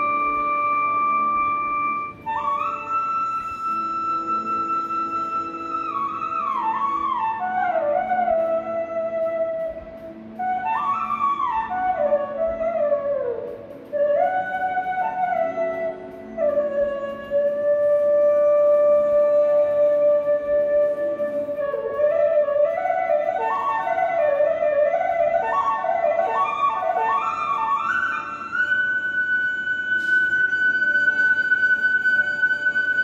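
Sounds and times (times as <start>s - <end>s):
flute melody: 0.0s - 33.0s.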